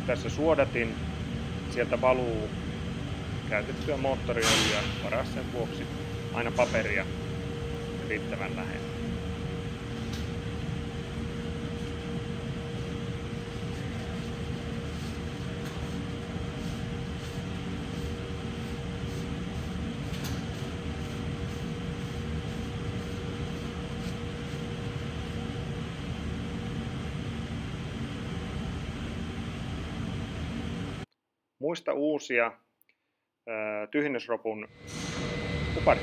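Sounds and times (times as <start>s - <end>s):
machinery humming: 0.0s - 31.0s, 34.7s - 36.0s.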